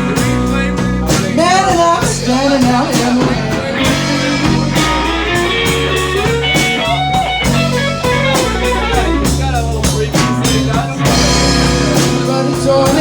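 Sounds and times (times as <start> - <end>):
person singing: 0.0 - 7.3, 8.1 - 13.0
blues band playing: 0.0 - 13.0
electric guitar bent notes: 0.0 - 13.0.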